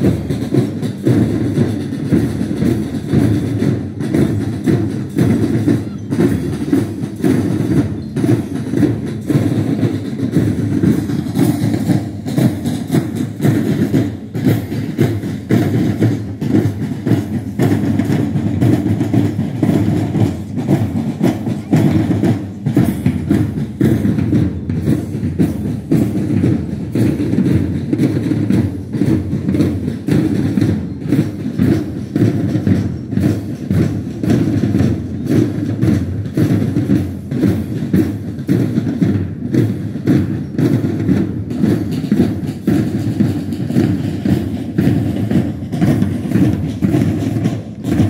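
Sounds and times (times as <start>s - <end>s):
marching drums beating: 0.0s - 48.0s.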